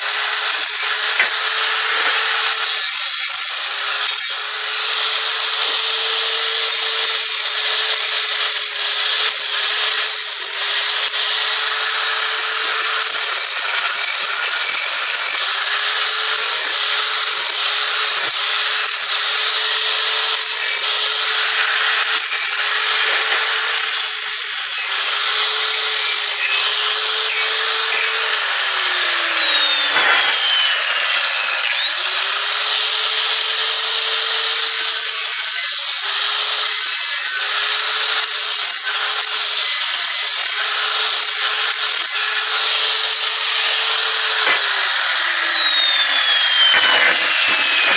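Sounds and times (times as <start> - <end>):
angle grinder grinding steel: 0.0 - 47.9.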